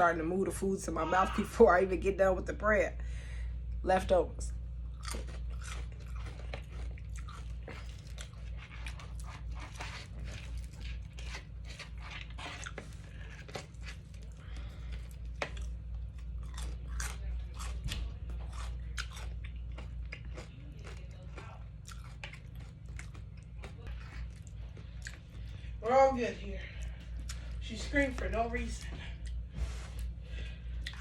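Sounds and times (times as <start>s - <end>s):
low background hum: 0.0s - 31.0s
person chewing food: 4.8s - 25.8s, 26.7s - 31.0s.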